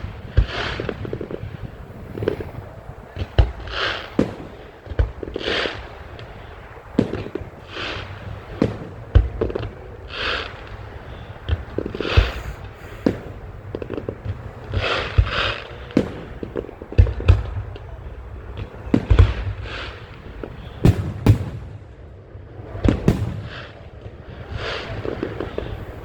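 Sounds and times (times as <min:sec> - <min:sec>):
fireworks bangs: 0:03.1 - 0:26.0.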